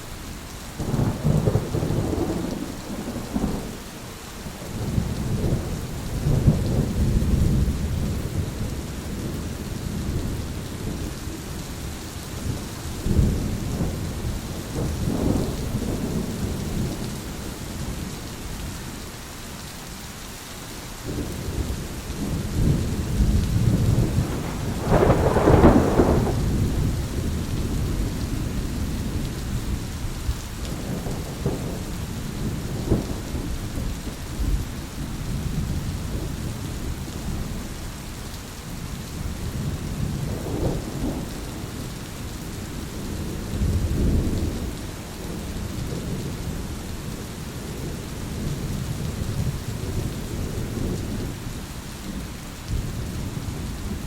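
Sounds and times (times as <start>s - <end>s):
steady rain: 0.0s - 54.0s
rolling thunder: 0.8s - 3.8s, 4.6s - 11.4s, 12.4s - 18.1s, 21.1s - 37.6s, 39.1s - 51.4s.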